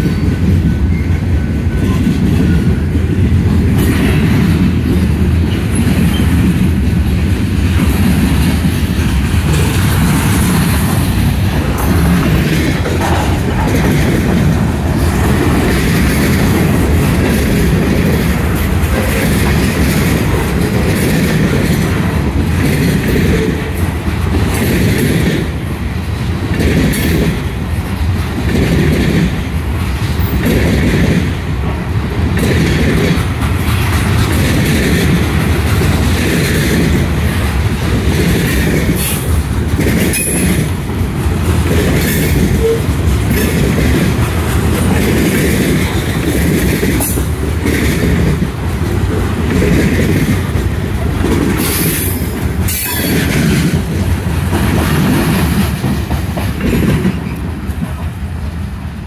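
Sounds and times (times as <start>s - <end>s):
clickety-clack over rail joints: 0.0s - 59.0s
steel wheels rumbling on rails: 0.0s - 59.0s.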